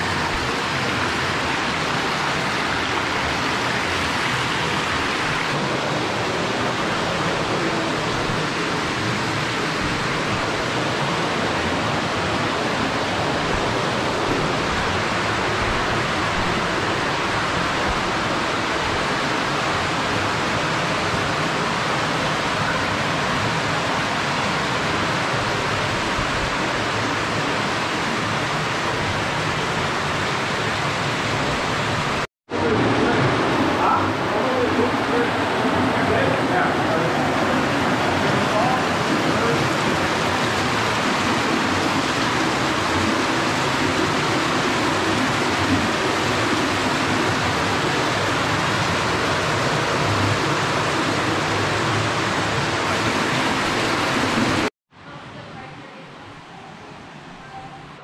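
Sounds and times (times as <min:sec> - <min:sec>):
stream water rushing: 0:00.0 - 0:55.5.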